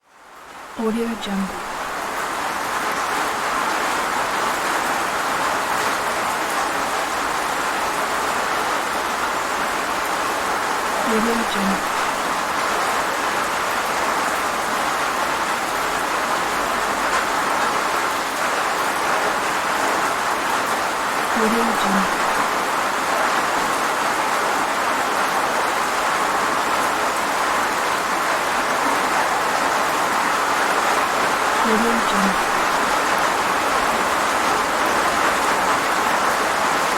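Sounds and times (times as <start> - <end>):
steady rain hiss: 0.0 - 36.9.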